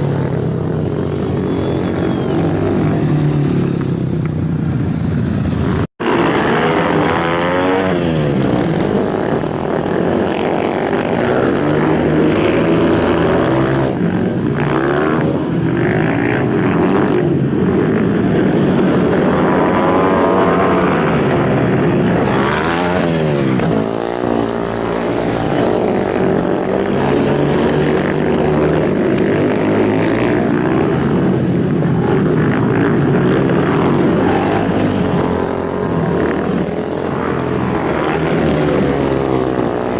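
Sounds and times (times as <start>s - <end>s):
racing motorcycles passing at high revs: 0.0s - 39.9s.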